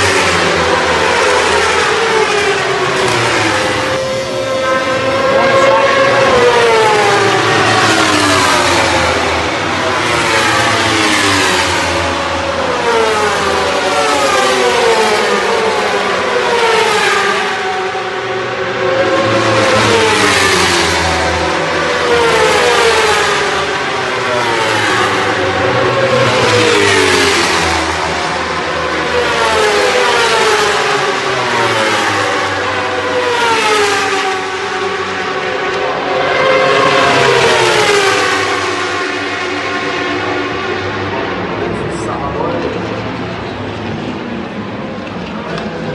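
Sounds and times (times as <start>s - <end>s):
motorcycle passing at speed: 0.0s - 41.6s.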